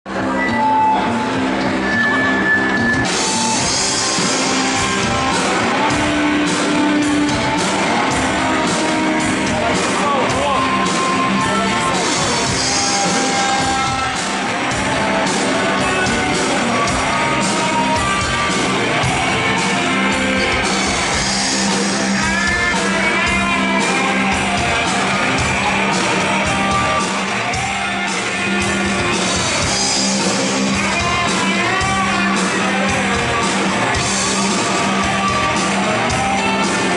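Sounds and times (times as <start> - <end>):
rock band playing loudly: 0.0 - 36.9
electric guitar: 0.1 - 36.9
steady drum beat: 2.8 - 36.9
shouted singing: 3.0 - 36.9.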